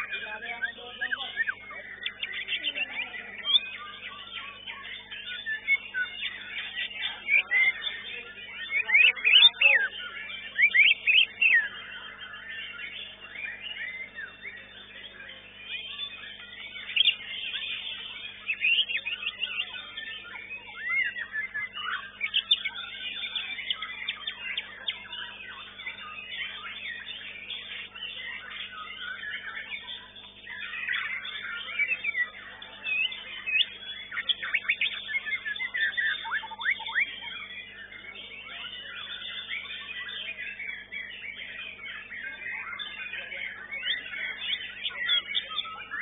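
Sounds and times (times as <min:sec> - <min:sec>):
many birds singing: 0:00.0 - 0:46.0.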